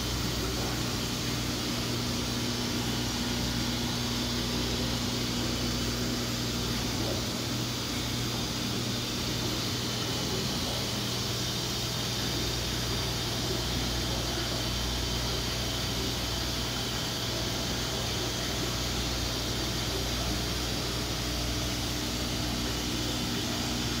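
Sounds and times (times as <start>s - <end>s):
aquarium air pump humming: 0.0s - 24.0s
filter bubbling hiss: 0.0s - 24.0s.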